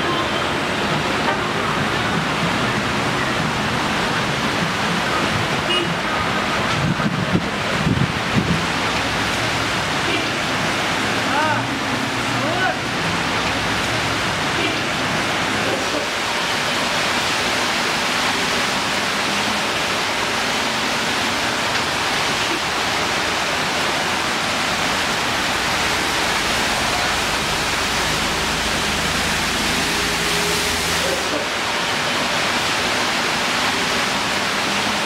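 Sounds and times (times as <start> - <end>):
tyres driving through floodwater: 0.0 - 35.0
rain hiss: 0.1 - 35.0.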